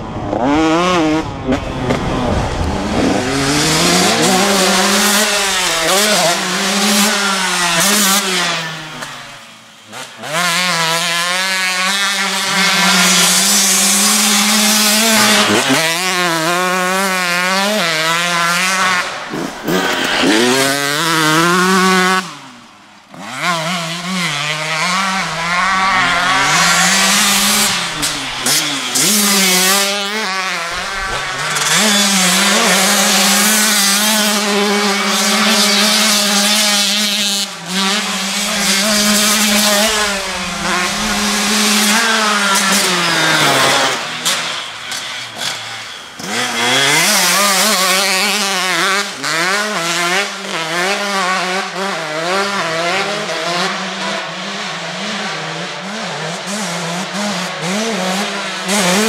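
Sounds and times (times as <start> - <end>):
two-stroke motorcycle engine revving: 0.0 - 59.0.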